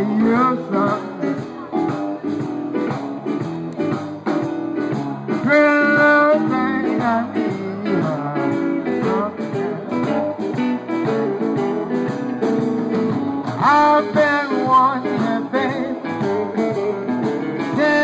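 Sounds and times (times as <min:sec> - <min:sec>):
electric guitar lead: 0:00.0 - 0:18.0
electric keyboard accompaniment: 0:00.0 - 0:18.0.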